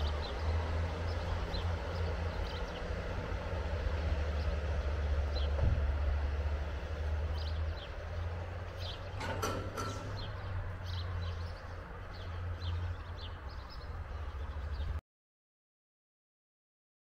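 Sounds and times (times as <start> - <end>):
small birds chirping: 0.0 - 6.0, 7.2 - 15.0.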